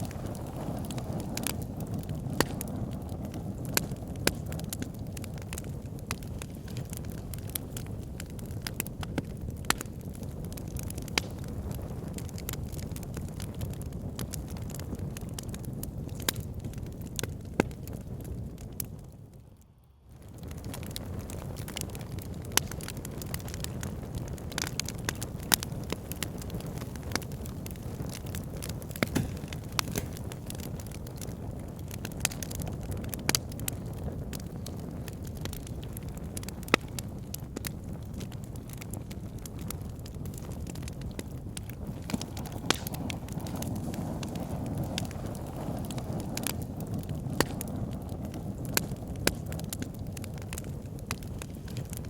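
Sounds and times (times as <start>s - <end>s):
fire crackling and popping: 0.0s - 52.0s
fire pit flames rumbling: 0.0s - 52.0s.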